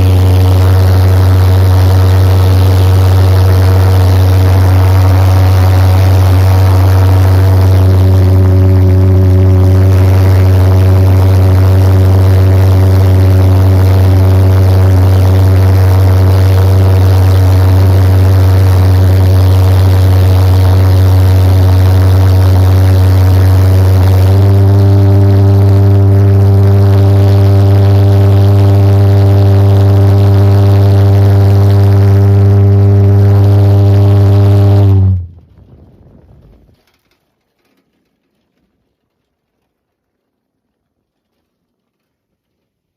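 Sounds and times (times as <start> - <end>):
jet engine buzzing drone: 0.0 - 35.5.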